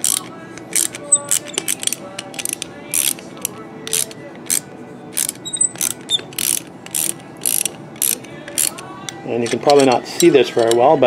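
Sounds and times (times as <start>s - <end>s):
ratchet wrench clicking: 0.0s - 4.6s, 5.2s - 10.9s.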